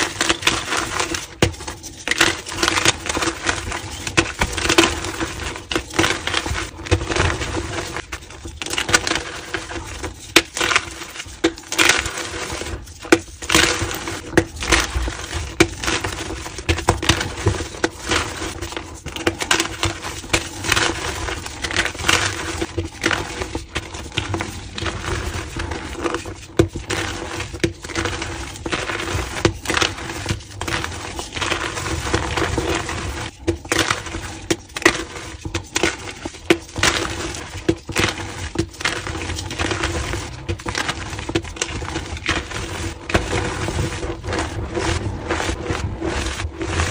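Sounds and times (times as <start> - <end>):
chalk crunching and crackling: 0.0 - 46.9.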